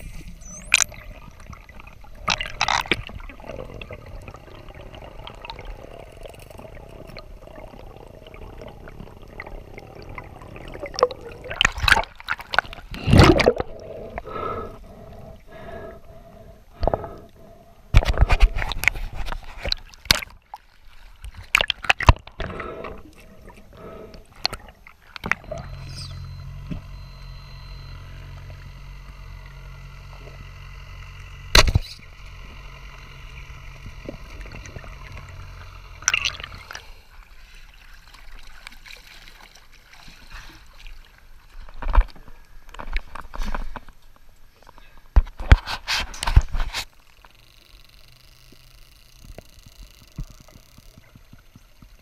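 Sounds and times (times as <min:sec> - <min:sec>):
steady low hum: 0:00.0 - 0:21.5, 0:22.1 - 0:45.2, 0:46.1 - 0:52.0
underwater bubbling: 0:00.0 - 0:43.1.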